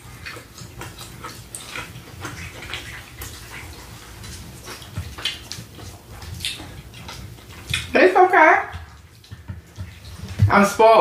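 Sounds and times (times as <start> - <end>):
chewing and wet mouth smacks: 0.0 - 10.4.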